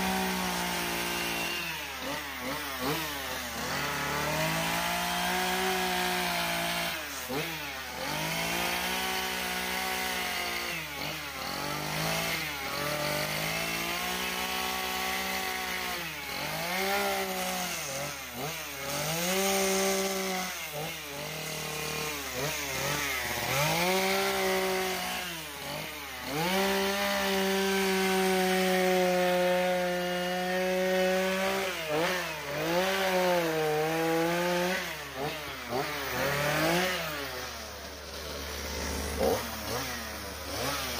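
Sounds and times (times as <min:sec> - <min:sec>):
chainsaw revving cutting wood: 0:00.0 - 0:40.9.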